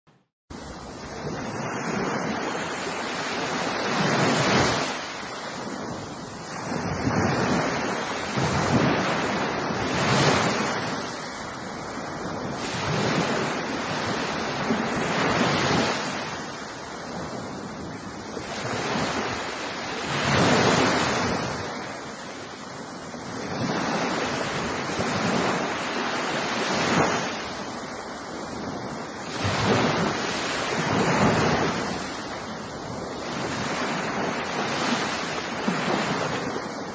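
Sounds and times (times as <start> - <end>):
waves breaking: 0.5 - 36.9.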